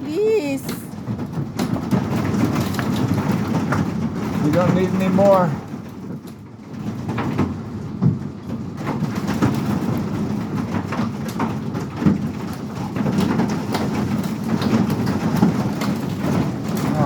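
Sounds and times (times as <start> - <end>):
hailstones clattering: 0.0 - 17.0.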